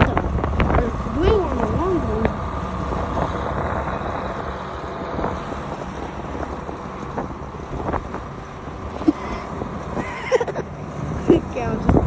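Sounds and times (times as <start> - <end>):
vehicle engine idling: 0.0 - 12.0
wind on microphone: 0.0 - 12.0.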